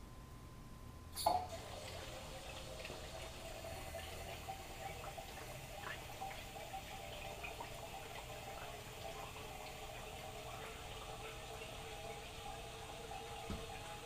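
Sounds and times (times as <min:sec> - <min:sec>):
water drips and ticks: 0:01.2 - 0:14.0
water running through hoses: 0:01.2 - 0:14.0.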